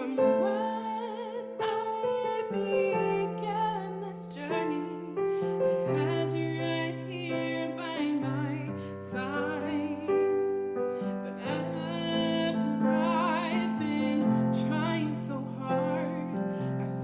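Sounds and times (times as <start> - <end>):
piano accompaniment: 0.0 - 17.0
woman singing with vibrato: 0.0 - 17.0.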